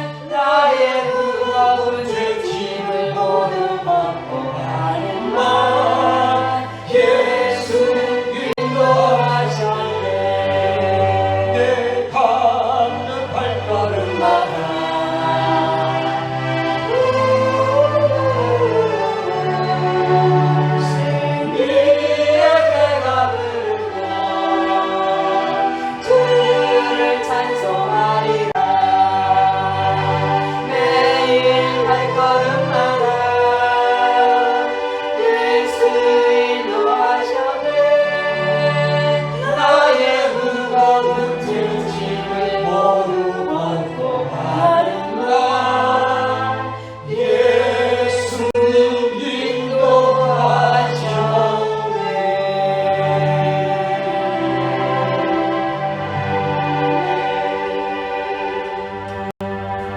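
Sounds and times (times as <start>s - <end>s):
choir singing a hymn: 0.0s - 59.9s
sustained accompaniment: 0.0s - 59.9s.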